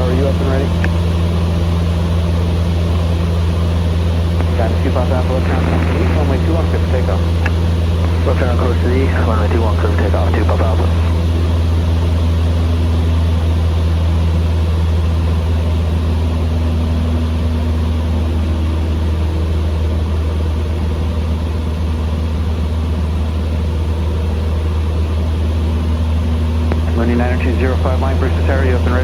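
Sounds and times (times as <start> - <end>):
aircraft engine idling: 0.0 - 29.0.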